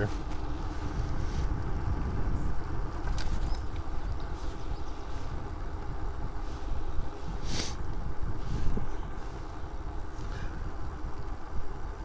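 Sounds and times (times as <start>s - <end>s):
vehicle road rumble and wind: 0.0s - 12.0s.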